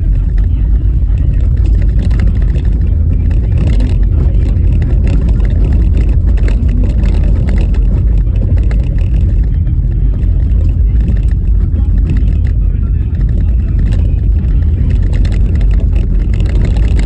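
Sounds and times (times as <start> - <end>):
car knocks and rattles: 0.0 - 17.0
tyres rumbling on bumpy road: 0.0 - 17.0.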